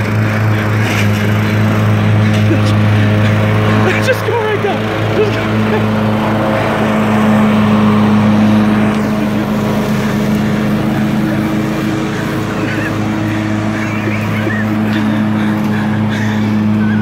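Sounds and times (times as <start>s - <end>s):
blades cutting grass: 0.0s - 17.0s
riding mower engine humming: 0.0s - 17.0s.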